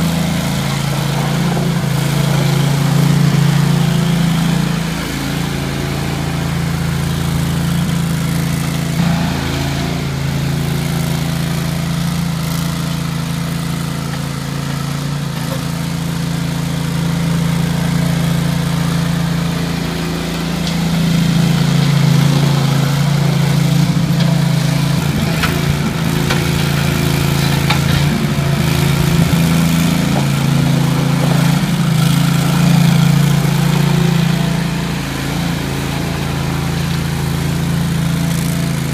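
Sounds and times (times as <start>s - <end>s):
mini skid loader engine running: 0.0s - 38.9s.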